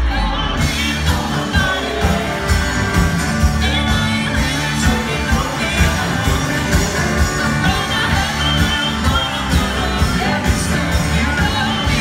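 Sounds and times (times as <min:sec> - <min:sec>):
live band playing country-rock: 0:00.0 - 0:12.0
person singing: 0:00.0 - 0:12.0.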